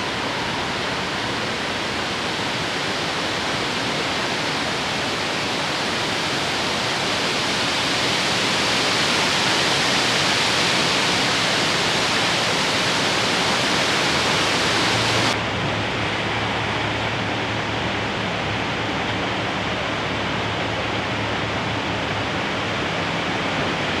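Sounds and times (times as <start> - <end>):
barge engine hum: 0.0 - 24.0
loud rushing hiss: 0.0 - 24.0.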